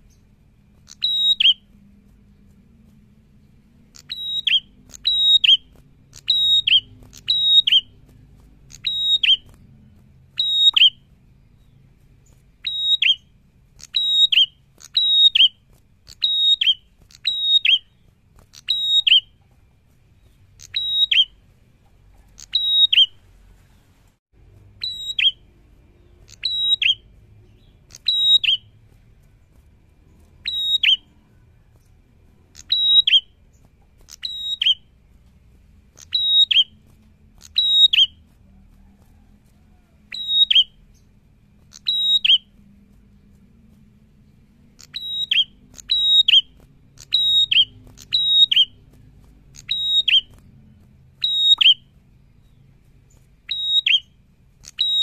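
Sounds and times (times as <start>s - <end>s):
bird calling: 0.0s - 2.5s, 3.4s - 23.9s, 24.6s - 34.9s, 35.9s - 42.7s, 44.6s - 55.0s.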